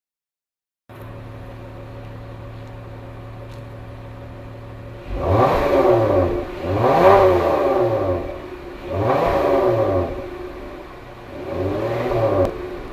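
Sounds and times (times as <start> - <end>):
car engine idling and revving: 0.9 - 12.9.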